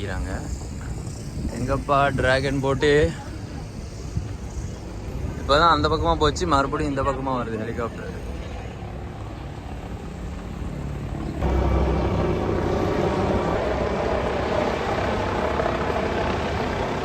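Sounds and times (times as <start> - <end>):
helicopter flying overhead: 0.0 - 17.0.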